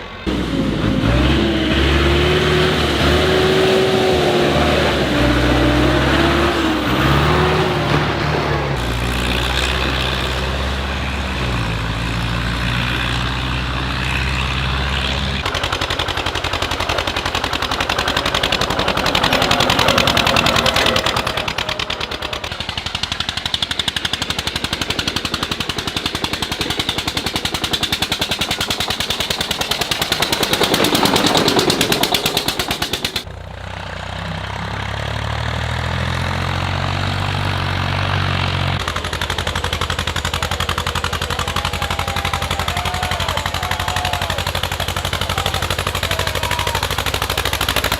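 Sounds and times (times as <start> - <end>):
tractor engine drone: 0.0 - 47.9
rapid exhaust popping: 0.2 - 33.8, 35.4 - 47.9.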